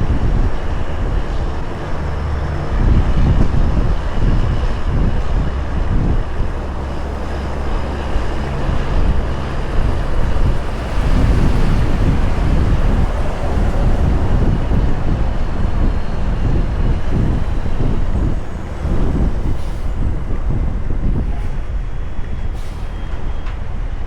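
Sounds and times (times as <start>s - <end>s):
road noise: 0.0s - 24.0s
truck diesel engine droning: 0.0s - 24.0s.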